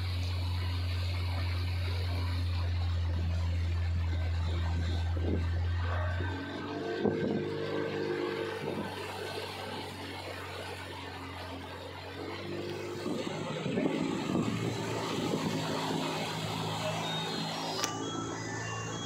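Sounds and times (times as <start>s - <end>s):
motorboat engine running: 0.0s - 19.0s
water noise: 0.0s - 19.0s
wind: 0.0s - 19.0s.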